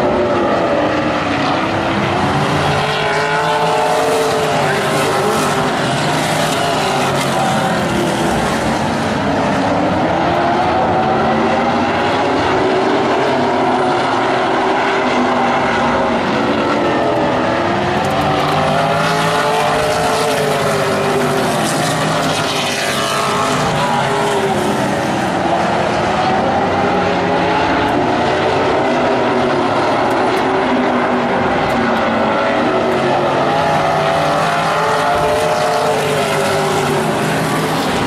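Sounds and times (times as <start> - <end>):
race car engines: 0.0 - 38.0.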